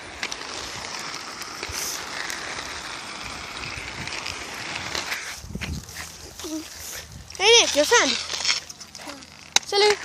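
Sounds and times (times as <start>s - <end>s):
small wheels rolling on asphalt: 0.0s - 10.0s.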